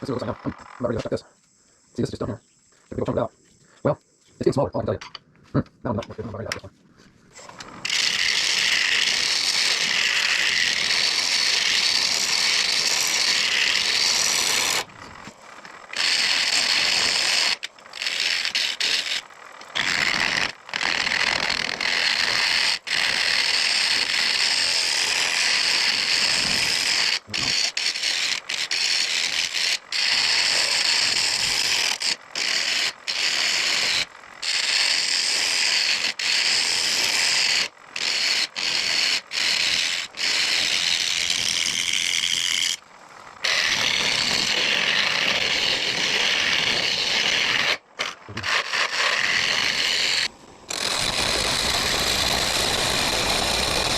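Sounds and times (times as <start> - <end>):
lathe gouge cutting wood: 7.3 - 53.9.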